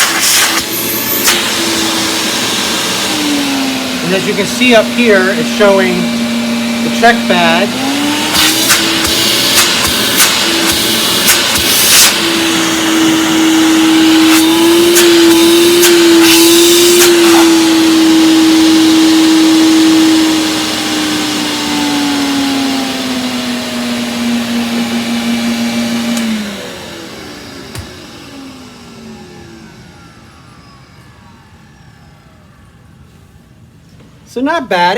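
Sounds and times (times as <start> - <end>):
vacuum cleaner motor whining: 0.0 - 34.2.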